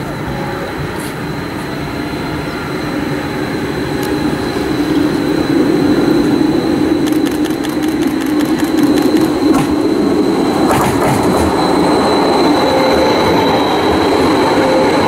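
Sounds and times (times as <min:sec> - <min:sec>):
light-rail train humming: 0:00.0 - 0:15.0.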